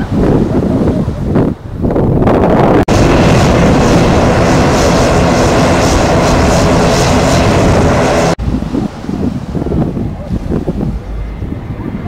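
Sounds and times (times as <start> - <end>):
airplane engines roaring: 0.0 - 12.0.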